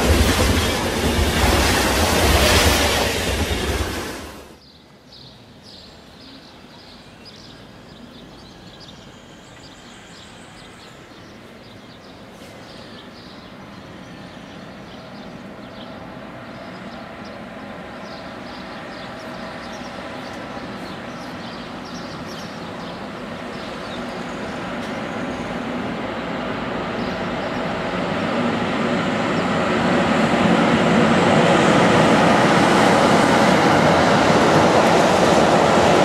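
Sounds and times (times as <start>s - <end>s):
freight train rumble: 0.0s - 4.6s, 7.5s - 36.0s
train passing at speed: 0.0s - 36.0s.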